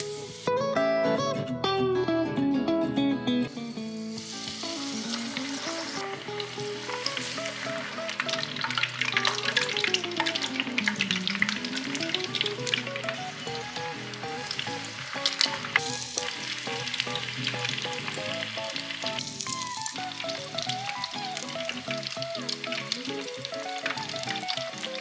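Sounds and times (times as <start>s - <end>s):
oil sizzling and popping: 0.0s - 0.5s, 3.5s - 25.0s.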